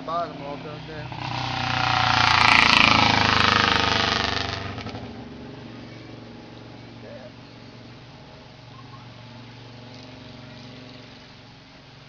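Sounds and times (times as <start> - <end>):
vehicle engine driving past: 0.0 - 12.0.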